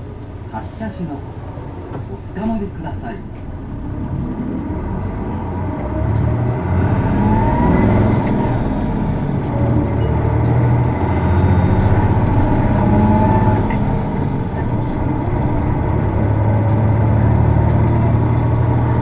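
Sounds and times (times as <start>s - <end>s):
bus diesel engine accelerating: 0.0s - 19.0s.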